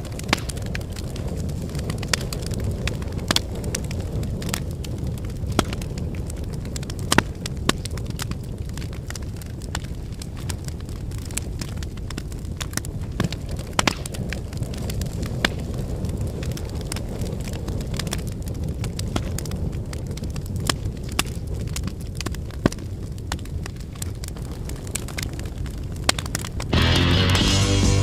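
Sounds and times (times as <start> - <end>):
fire pops and snaps: 0.0 - 26.9
log fire crackling: 0.0 - 28.0
low rumble of flames: 0.0 - 28.0.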